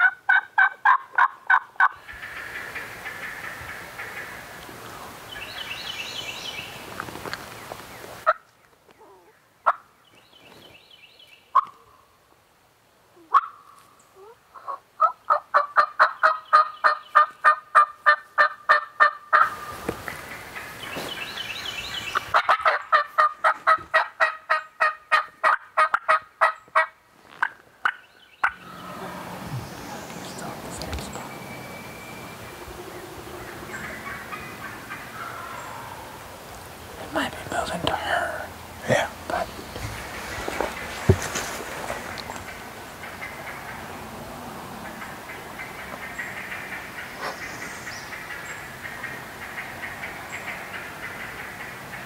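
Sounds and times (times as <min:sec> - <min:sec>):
bird calls: 0:00.9 - 0:12.1, 0:13.2 - 0:25.2, 0:25.8 - 0:44.1, 0:44.8 - 0:52.0.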